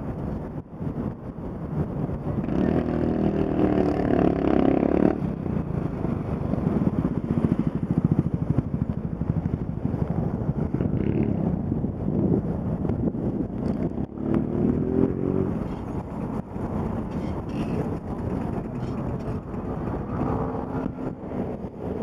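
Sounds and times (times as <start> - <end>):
road traffic engines: 0.0 - 22.0.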